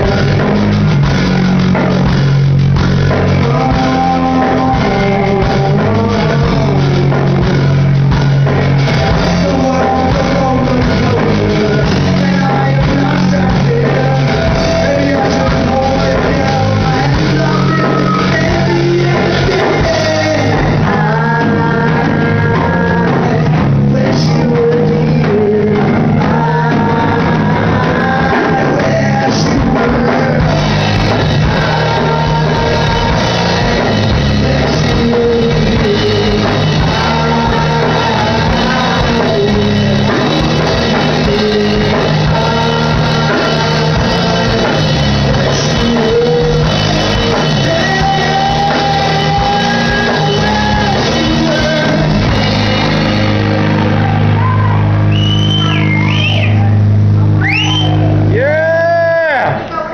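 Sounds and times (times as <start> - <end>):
person singing: 0.0 - 2.1, 2.9 - 56.0
rock band playing live: 0.0 - 59.9.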